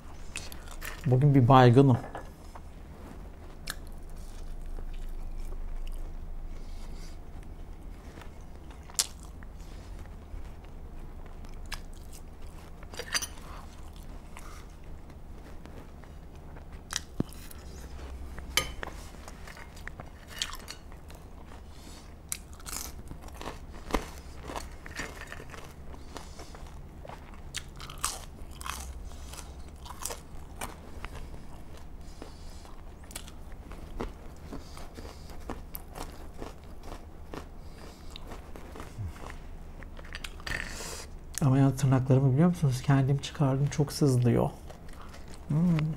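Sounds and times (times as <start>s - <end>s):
person chewing: 0.1s - 1.1s, 3.4s - 41.4s, 44.6s - 45.9s.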